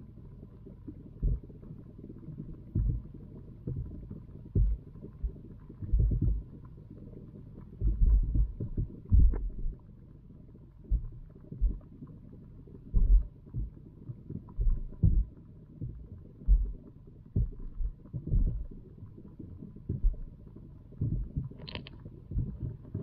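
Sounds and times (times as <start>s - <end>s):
muffled underwater thumps and gurgling: 0.0s - 23.0s.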